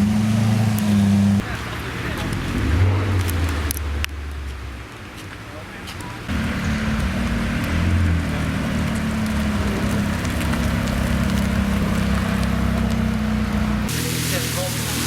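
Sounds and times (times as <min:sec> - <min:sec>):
car engine drone: 0:00.0 - 0:05.0, 0:06.2 - 0:15.0
road and wind noise: 0:00.0 - 0:15.0.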